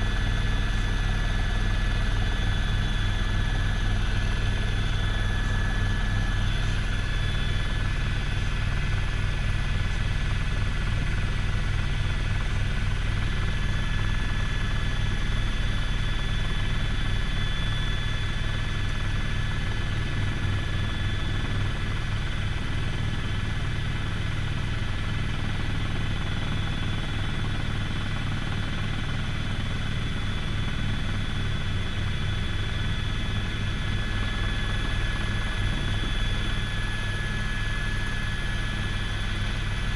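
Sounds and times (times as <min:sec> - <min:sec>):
constant high whine: 0:00.0 - 0:39.9
helicopter engine hum: 0:00.0 - 0:39.9
helicopter rotor beat: 0:00.0 - 0:39.9.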